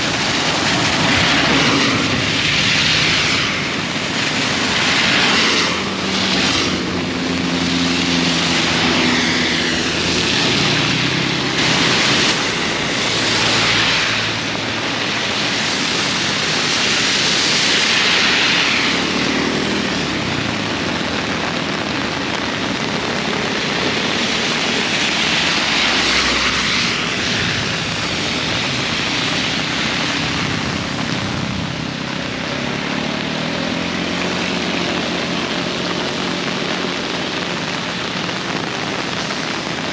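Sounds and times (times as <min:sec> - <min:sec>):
heavy rain pouring: 0:00.0 - 0:39.9
vehicles passing on wet road: 0:00.0 - 0:39.9.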